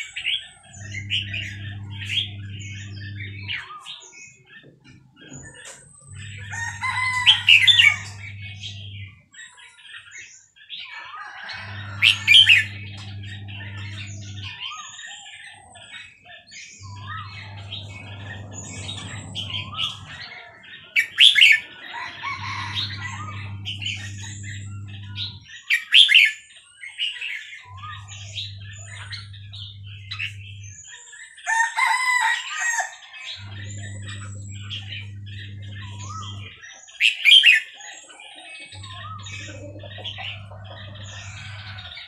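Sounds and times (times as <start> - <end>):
low mechanical hum: 0.0 - 9.5, 11.1 - 26.3, 27.6 - 37.0, 38.6 - 42.0
bird singing and chattering: 0.0 - 10.6, 11.6 - 31.3, 33.4 - 42.0.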